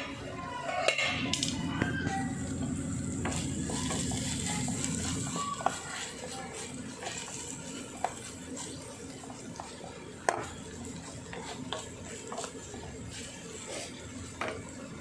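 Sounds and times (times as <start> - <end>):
spatula stirring and scraping pan: 1.9 - 15.0.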